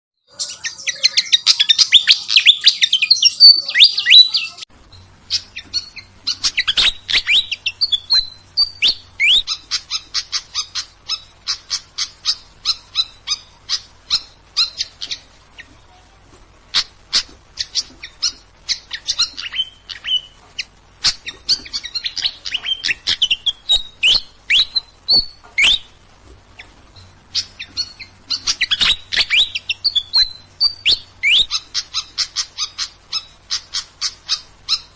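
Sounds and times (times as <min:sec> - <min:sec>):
songbird chirping and whistling: 0:00.3 - 0:15.8, 0:16.7 - 0:26.0, 0:26.6 - 0:34.9.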